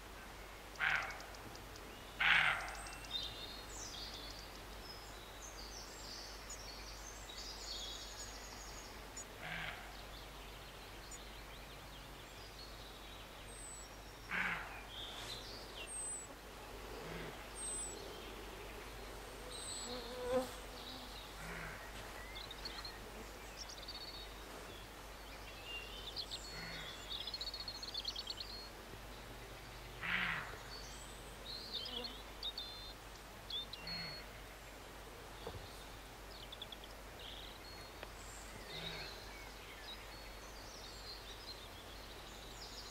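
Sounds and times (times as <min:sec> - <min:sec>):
faint birds chirping: 0:00.0 - 0:42.9.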